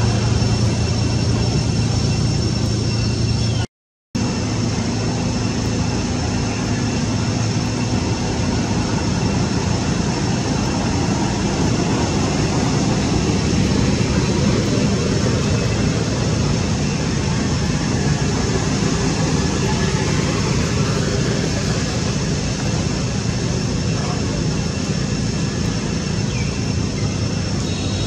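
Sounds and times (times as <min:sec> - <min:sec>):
rumbling hiss: 0:00.0 - 0:03.6, 0:04.2 - 0:28.0.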